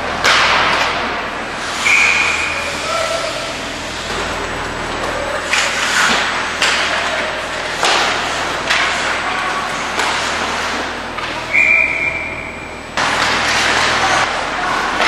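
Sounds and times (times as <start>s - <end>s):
ice skating and play sounds: 0.0s - 15.0s.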